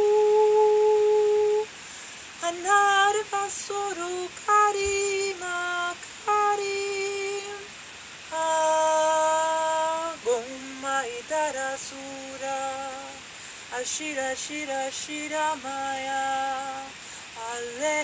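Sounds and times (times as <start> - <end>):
woman singing wordless syllables: 0.0 - 18.0.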